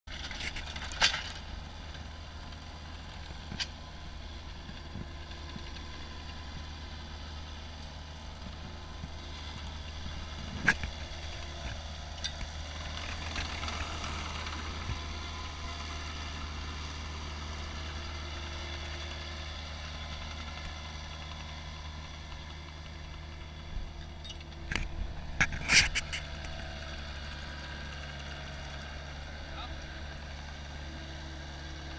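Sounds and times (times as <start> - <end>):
loader engine running: 0.1 - 31.9.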